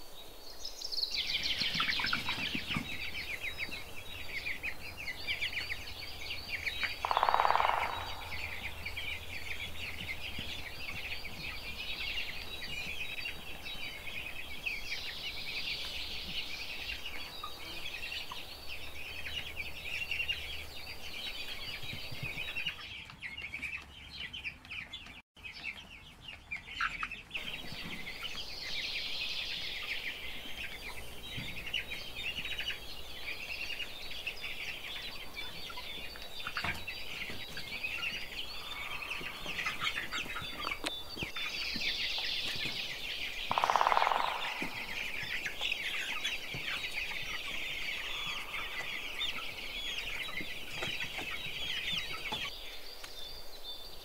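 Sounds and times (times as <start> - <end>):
chicks chirping: 0.0 - 54.0.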